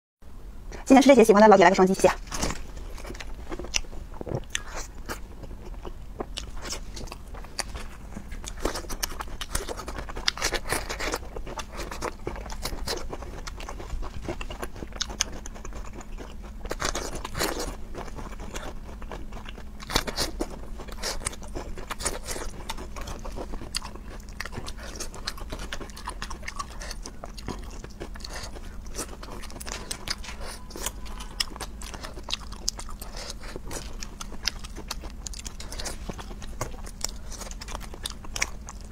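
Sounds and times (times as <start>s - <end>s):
person chewing and crunching food: 2.2s - 38.9s.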